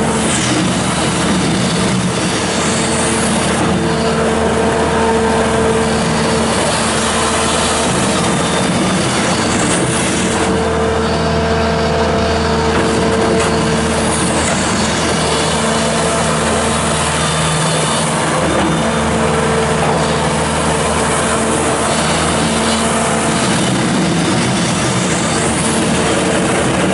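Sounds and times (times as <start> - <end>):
diesel engine running loud: 0.0 - 26.9.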